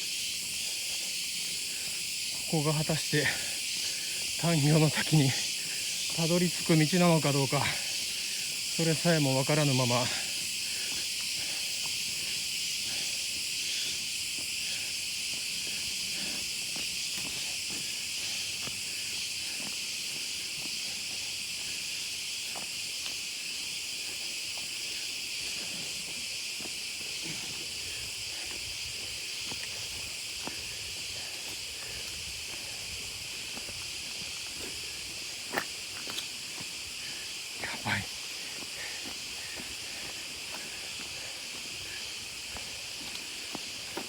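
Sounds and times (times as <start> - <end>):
high-pitched insect chorus: 0.0 - 44.0.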